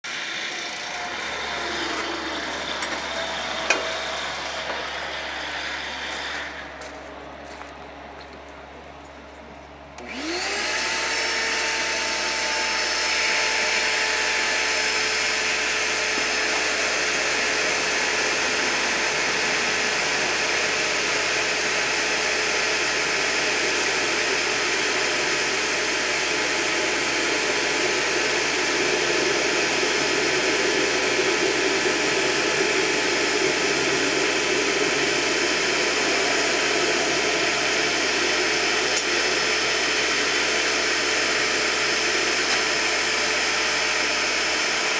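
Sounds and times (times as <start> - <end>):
shop vacuum motor whining: 0.0 - 44.9.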